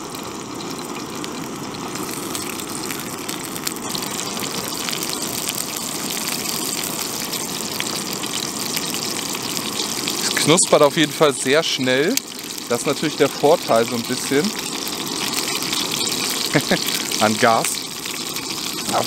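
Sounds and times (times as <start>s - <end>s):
dough sizzling in hot oil: 0.0s - 19.0s
gas stove burner roaring: 0.0s - 19.0s.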